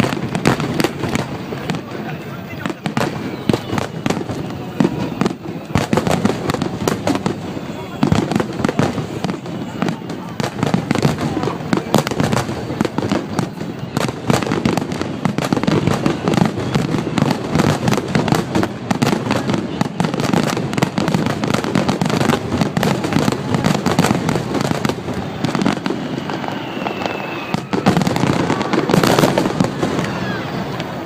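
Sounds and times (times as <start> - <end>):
aerial fireworks bursting: 0.0 - 31.0.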